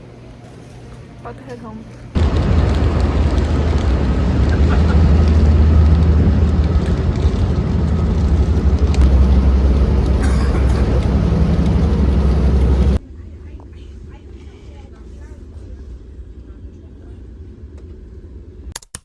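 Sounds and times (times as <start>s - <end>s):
train rumbling and humming: 1.2s - 18.7s.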